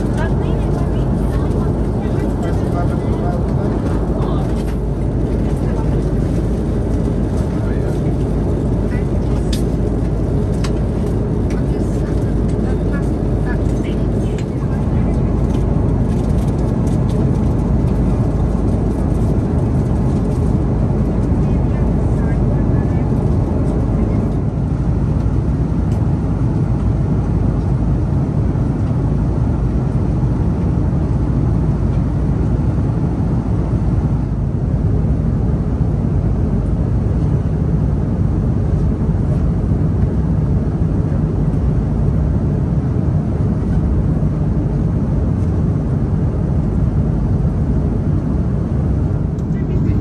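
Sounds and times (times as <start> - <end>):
aircraft engine rumble: 0.0 - 50.0.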